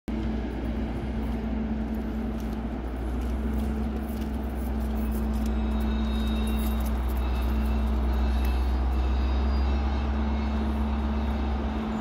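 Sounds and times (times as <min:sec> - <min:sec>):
diesel train engine idling: 0:00.1 - 0:12.0.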